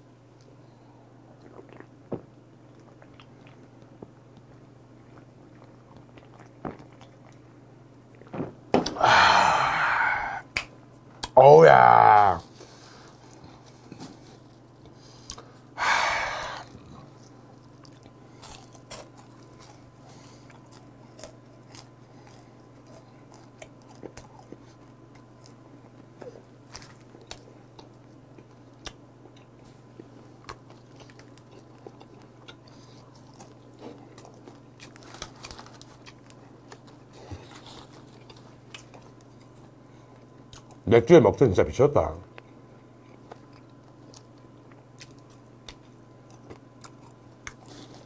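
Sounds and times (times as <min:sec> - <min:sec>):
person chewing jerky: 0:01.3 - 0:07.5, 0:11.2 - 0:40.8, 0:42.2 - 0:48.0.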